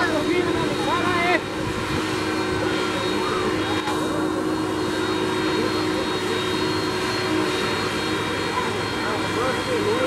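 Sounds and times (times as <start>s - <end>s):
jet engine whine: 0.0s - 10.0s.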